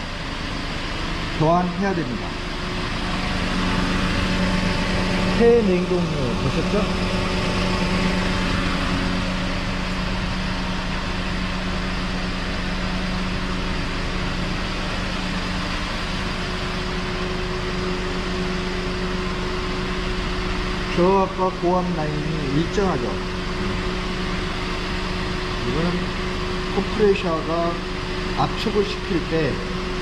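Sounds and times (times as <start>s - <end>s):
air conditioning hum: 0.0s - 30.0s
car idling hum: 0.0s - 30.0s.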